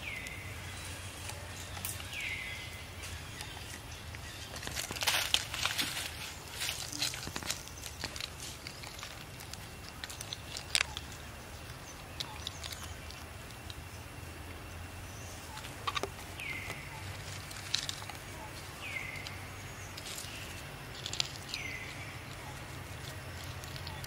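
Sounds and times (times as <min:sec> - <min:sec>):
light clicks and rustles: 0:03.0 - 0:14.0, 0:15.4 - 0:24.0.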